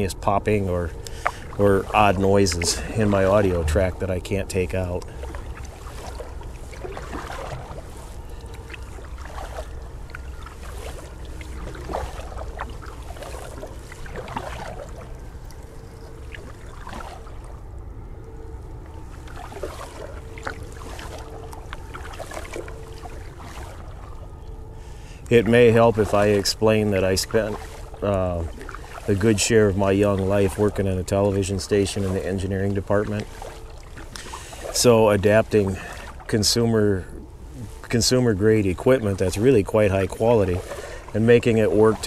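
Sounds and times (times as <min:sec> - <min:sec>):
paddle swishing through water: 0:00.9 - 0:17.8, 0:18.5 - 0:42.0.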